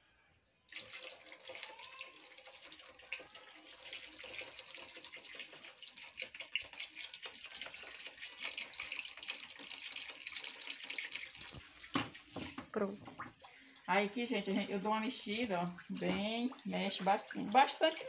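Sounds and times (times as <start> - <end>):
liquid pouring into bucket: 0.7 - 18.0.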